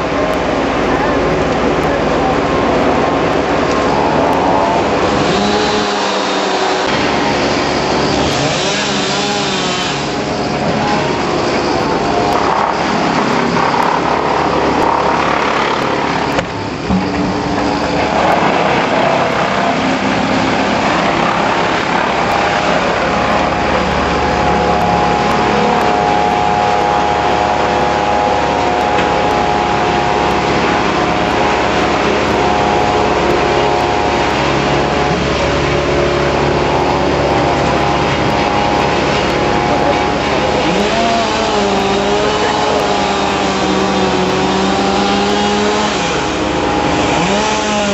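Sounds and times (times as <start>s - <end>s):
machinery engine running: 0.0s - 47.9s.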